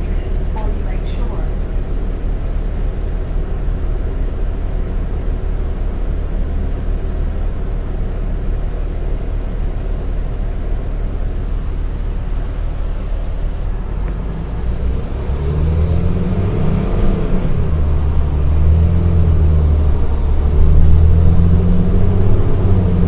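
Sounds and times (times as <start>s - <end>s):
bus diesel engine idling: 0.0s - 23.0s.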